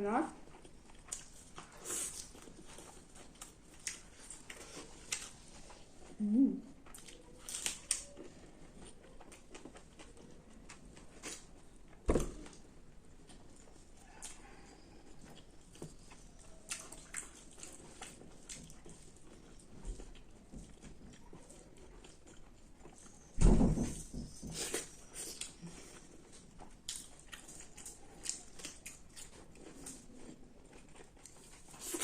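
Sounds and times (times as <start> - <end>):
person chewing: 0.4 - 23.2, 24.5 - 32.0.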